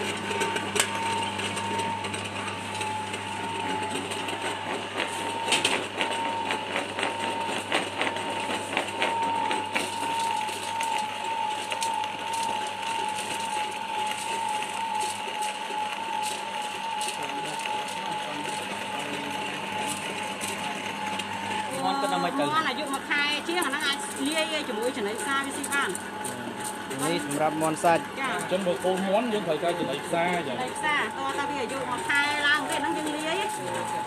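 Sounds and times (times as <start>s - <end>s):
pellet mill motor whining: 0.0s - 34.0s.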